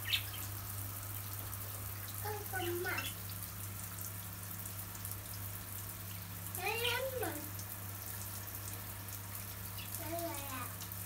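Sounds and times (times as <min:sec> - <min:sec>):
shower water spraying: 0:00.0 - 0:11.0.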